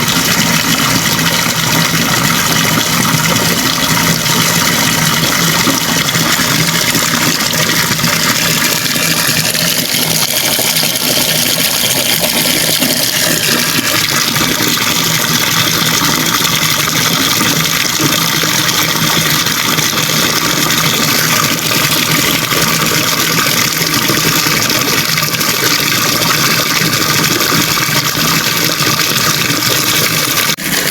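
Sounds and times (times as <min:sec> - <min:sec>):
water running from a tap: 0:00.0 - 0:30.9.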